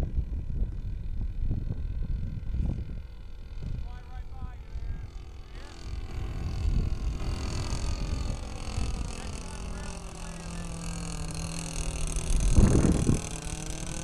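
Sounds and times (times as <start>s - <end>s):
model plane engine passing overhead: 0.0s - 14.0s
wind buffeting microphone: 0.0s - 14.0s.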